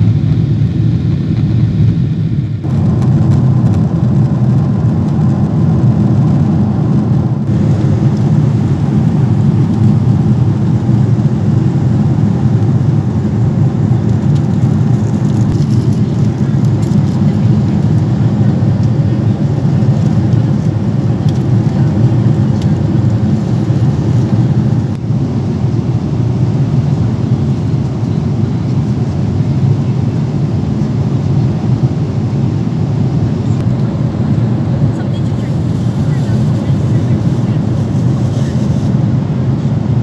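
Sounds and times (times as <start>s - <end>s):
airliner cabin jet noise: 0.0s - 40.0s.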